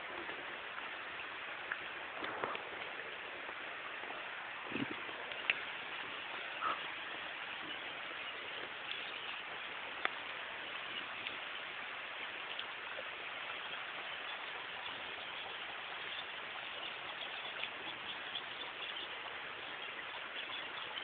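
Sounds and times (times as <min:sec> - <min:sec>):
steady rain: 0:00.0 - 0:21.0
water dripping: 0:00.0 - 0:21.0.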